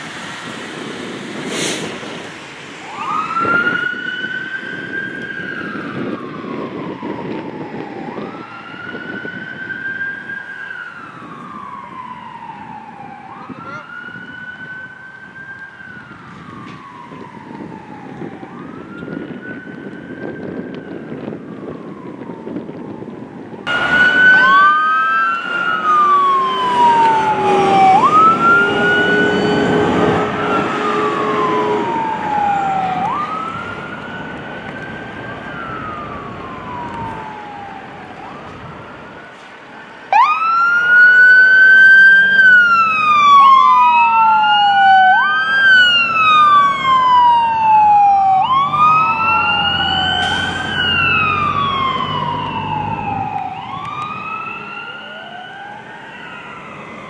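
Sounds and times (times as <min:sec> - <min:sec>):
electronic sirens wailing: 0:02.8 - 0:39.3, 0:40.1 - 0:57.0
loud ambulance siren: 0:02.8 - 0:57.0.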